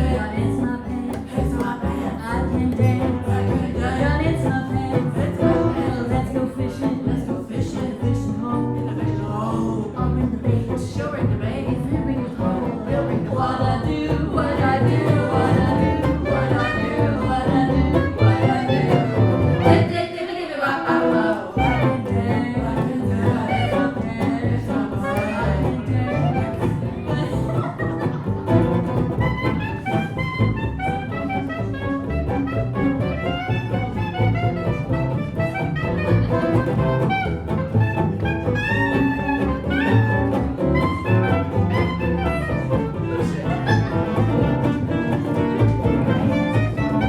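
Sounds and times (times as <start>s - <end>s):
live jazz band playing: 0.0s - 7.4s, 8.0s - 20.0s, 21.6s - 47.0s
bass: 0.0s - 20.2s, 20.8s - 47.0s.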